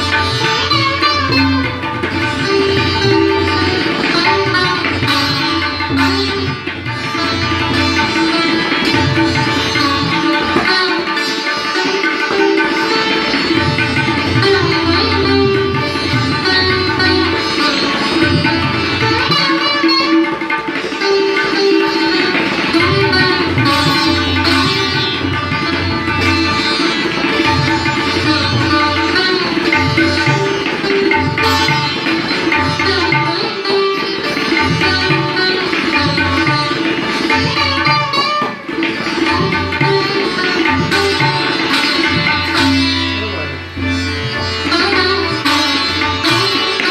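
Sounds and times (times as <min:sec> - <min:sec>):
sitar melody: 0:00.0 - 0:46.9
tabla drum strokes: 0:00.0 - 0:46.9.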